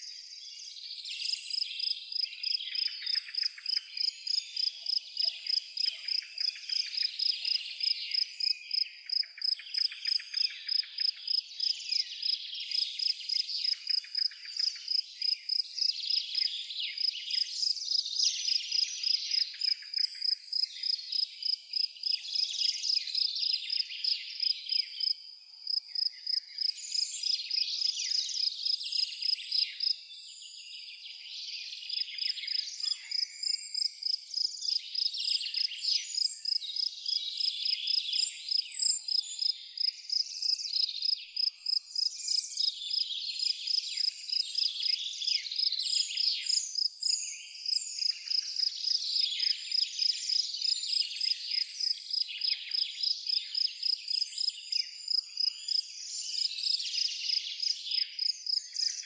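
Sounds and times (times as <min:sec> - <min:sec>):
birds singing and chirping: 0:00.0 - 0:59.0
cricket chirping: 0:01.5 - 0:30.3, 0:31.9 - 0:59.0.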